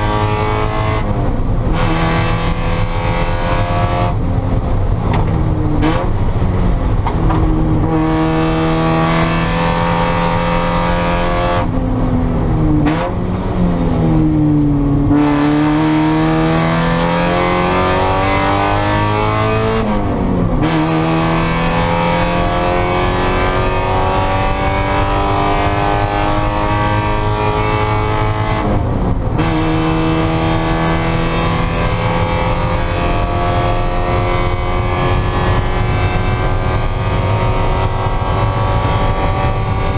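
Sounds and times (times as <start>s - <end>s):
car engine racing at full throttle: 0.0s - 39.9s.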